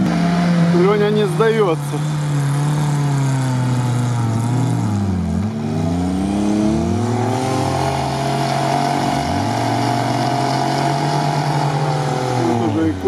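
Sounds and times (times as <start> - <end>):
off-road engines revving: 0.0 - 13.0.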